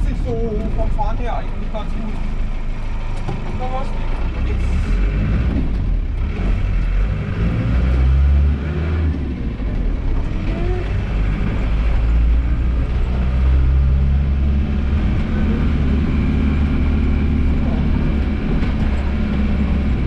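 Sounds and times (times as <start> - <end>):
engine drone and road noise: 0.0 - 20.0.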